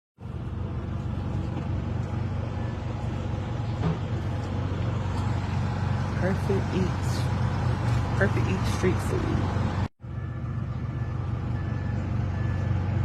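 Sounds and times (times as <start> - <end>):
low engine drone: 0.2 - 13.0.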